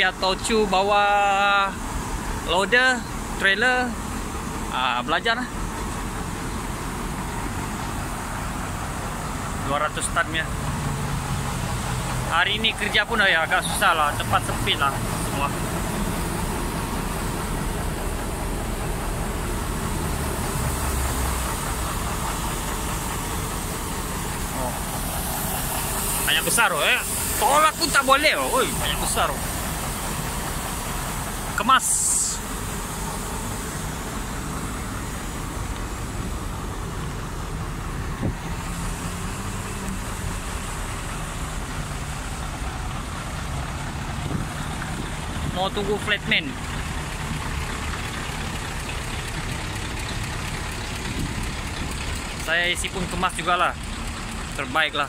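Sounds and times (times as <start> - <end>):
heavy vehicle engine idling: 0.0 - 55.0.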